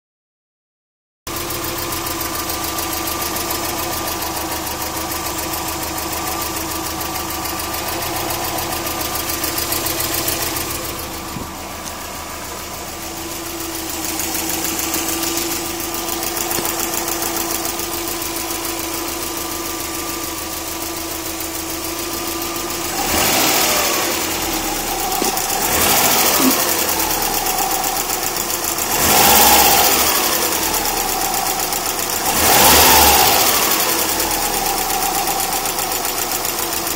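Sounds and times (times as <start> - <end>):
car engine idling with ticking: 1.3 - 36.9
car engine revving: 1.3 - 36.9.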